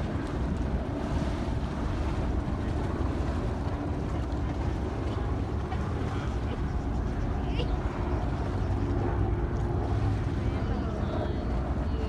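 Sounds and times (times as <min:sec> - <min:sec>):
water rushing past boat: 0:00.0 - 0:12.0.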